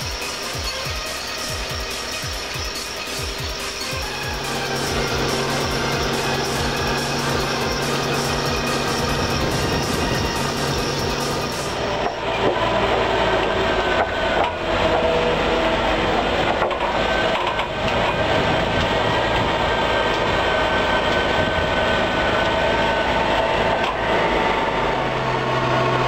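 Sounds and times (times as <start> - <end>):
constant whine: 0.0 - 26.0
planter units rattling: 0.0 - 26.0
tractor machinery drone: 0.0 - 26.0.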